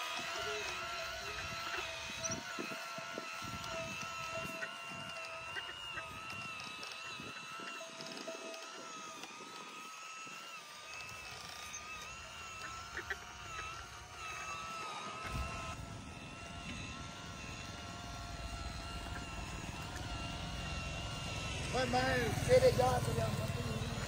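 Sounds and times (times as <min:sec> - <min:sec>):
small motor whining: 0:00.0 - 0:24.0.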